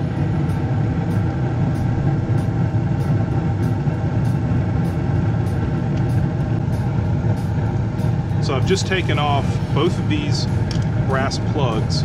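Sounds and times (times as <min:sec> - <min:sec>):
furnace mechanical hum: 0:00.0 - 0:12.0.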